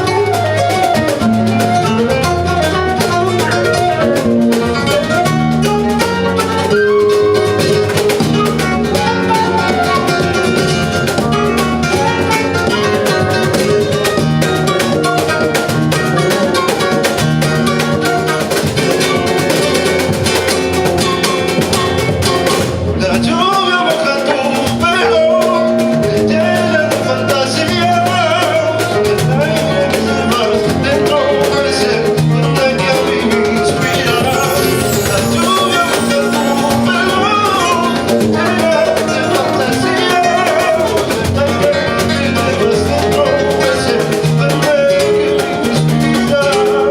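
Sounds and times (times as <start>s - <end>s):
flamenco guitar music: 0.0s - 46.9s.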